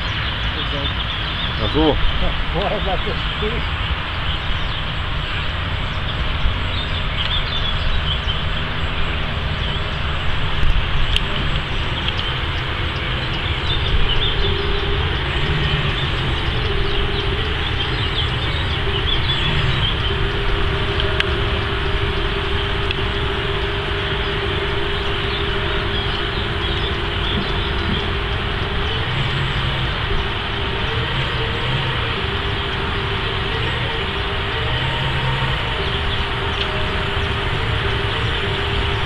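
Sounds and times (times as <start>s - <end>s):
faint steady hum: 0.0s - 39.0s
low rumbling outdoor noise: 0.0s - 39.0s.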